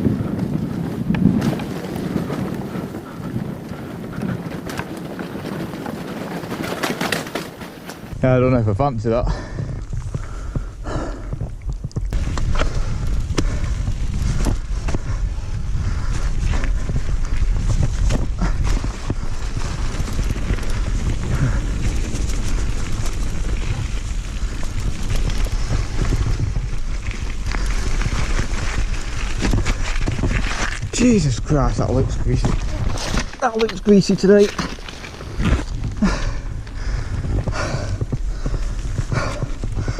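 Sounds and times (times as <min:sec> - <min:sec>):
wind buffeting microphone: 0:00.0 - 0:07.4, 0:08.0 - 0:39.9
mountain bike rattling over trail: 0:00.0 - 0:39.9.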